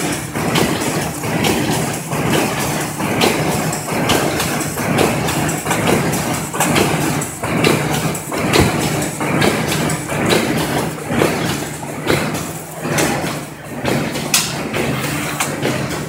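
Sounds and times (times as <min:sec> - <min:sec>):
machine clacking: 0:00.0 - 0:16.0
machine motor hum: 0:00.0 - 0:16.0.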